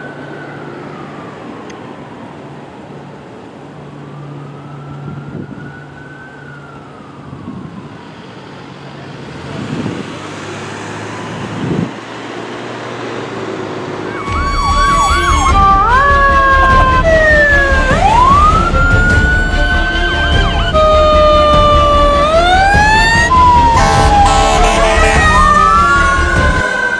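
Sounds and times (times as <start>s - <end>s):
fire engine sirens wailing: 0.0s - 26.9s
traffic noise: 0.0s - 26.9s.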